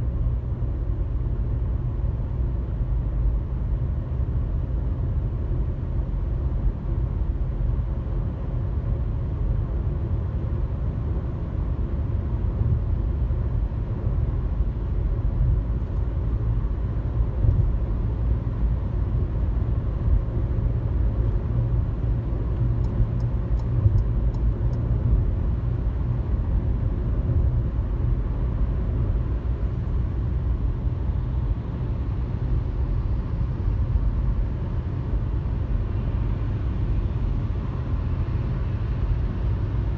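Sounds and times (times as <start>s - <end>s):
car cabin road rumble: 0.0s - 39.9s.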